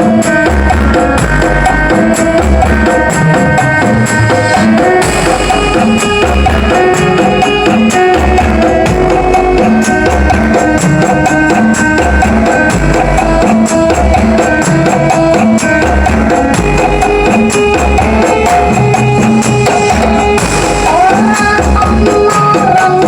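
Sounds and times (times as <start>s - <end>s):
loud dance music with heavy bass: 0.0s - 23.0s.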